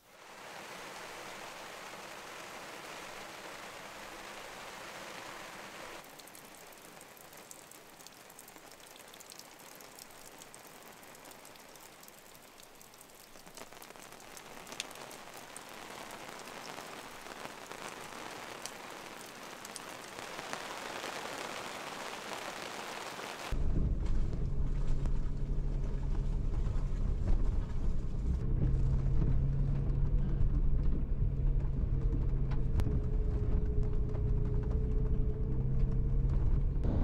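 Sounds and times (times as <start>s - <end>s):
rain falling: 0.0s - 23.6s, 24.3s - 37.0s
raindrops ticking on a surface: 0.0s - 23.6s, 29.4s - 36.6s.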